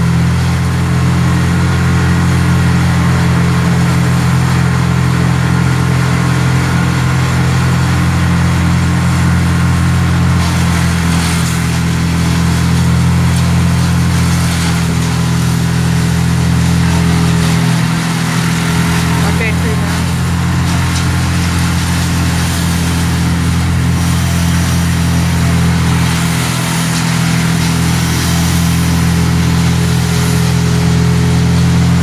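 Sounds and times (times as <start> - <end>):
large engine droning: 0.0 - 32.0.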